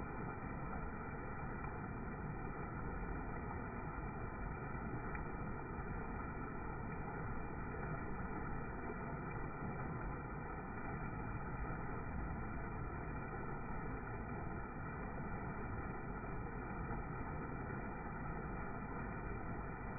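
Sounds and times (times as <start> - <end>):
water rushing over waterfall: 0.0 - 19.9.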